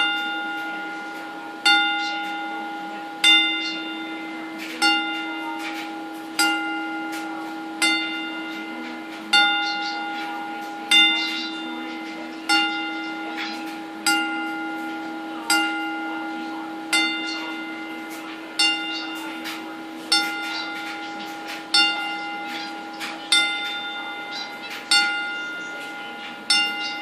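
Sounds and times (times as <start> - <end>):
bell tolling slowly: 0.0 - 27.0.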